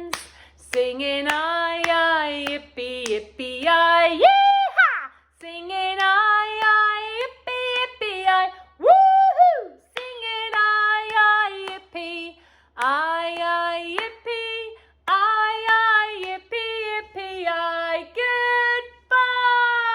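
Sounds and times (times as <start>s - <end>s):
woman singing unaccompanied: 0.0s - 19.9s.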